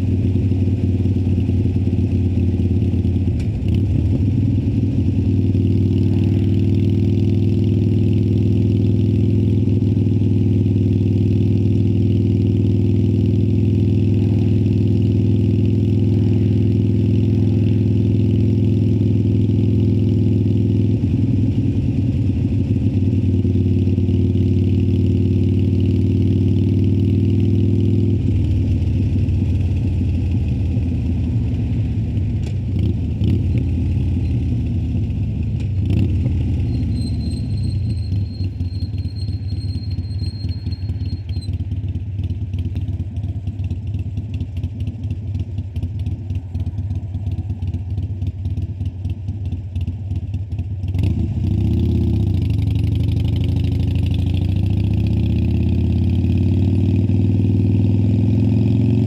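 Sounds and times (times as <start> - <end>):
motorcycle engine while riding: 0.0 - 59.0.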